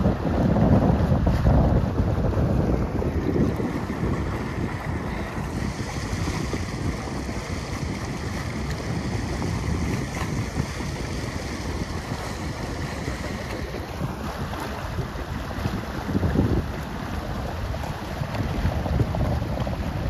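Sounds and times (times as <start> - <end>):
water rushing along hull: 0.0 - 20.0
wind noise on microphone: 0.0 - 20.0.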